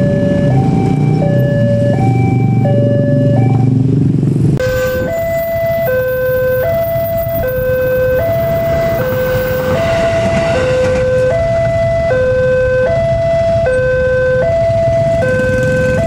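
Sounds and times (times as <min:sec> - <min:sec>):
two-tone level crossing alarm: 0:00.0 - 0:03.8, 0:04.6 - 0:16.0
faster crossing alarm: 0:00.0 - 0:03.9, 0:04.6 - 0:16.0.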